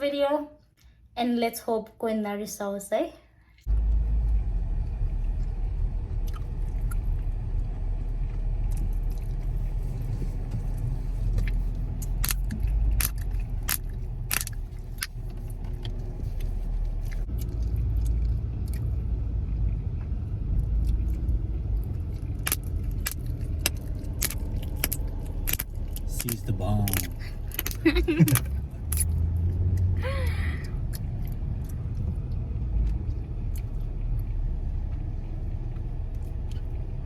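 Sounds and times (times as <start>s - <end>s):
car cabin rumble: 3.7s - 37.0s.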